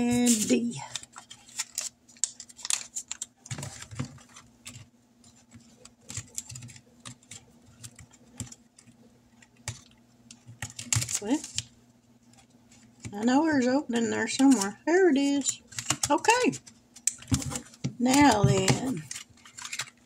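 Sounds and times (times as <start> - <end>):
paper money rustling: 0.0 - 11.6, 14.3 - 20.0.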